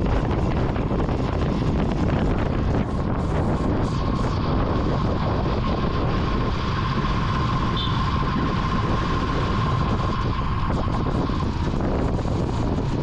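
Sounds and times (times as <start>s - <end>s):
motorcycle engine rumble: 0.0s - 13.0s
thin steady whine: 0.0s - 13.0s
wind buffeting microphone: 0.0s - 13.0s.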